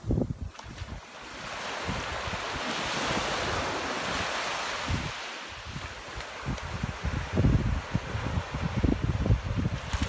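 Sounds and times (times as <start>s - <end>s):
surf washing on sand: 0.0s - 10.0s
wind buffeting microphone: 0.0s - 10.0s.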